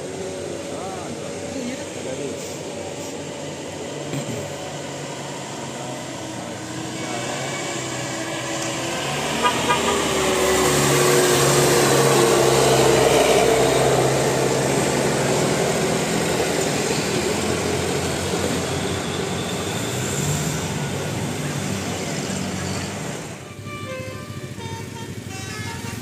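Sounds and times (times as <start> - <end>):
large vehicle passing by: 0.0 - 26.0.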